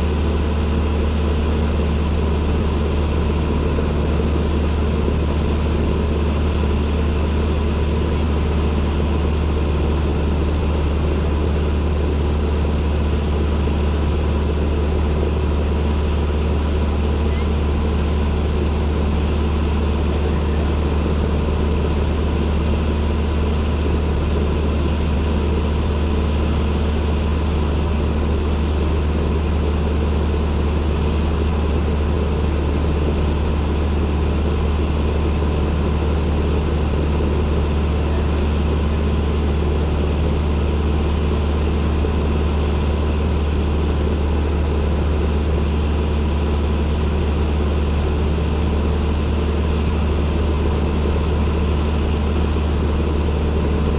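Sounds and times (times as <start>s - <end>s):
plane engine and propeller droning: 0.0s - 53.9s.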